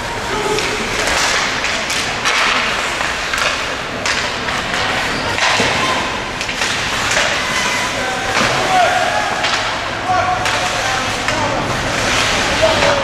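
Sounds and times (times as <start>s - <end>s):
puck and sticks hitting boards: 0.3s - 13.0s.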